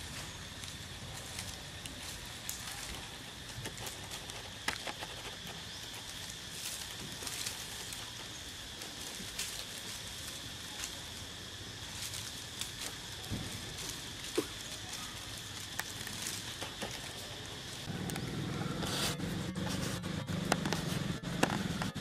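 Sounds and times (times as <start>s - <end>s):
dry leaves crackling and rustling: 0.0s - 22.0s
steady outdoor hiss: 0.0s - 22.0s.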